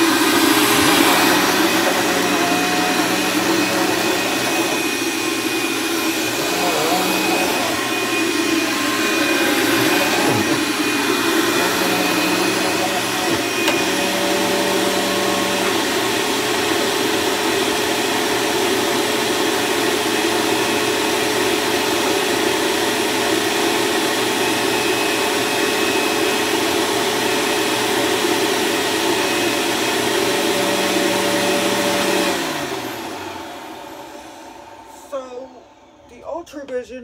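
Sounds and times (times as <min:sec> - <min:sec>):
upright vacuum humming: 0:00.0 - 0:36.2
vacuum winding down: 0:00.0 - 0:36.2.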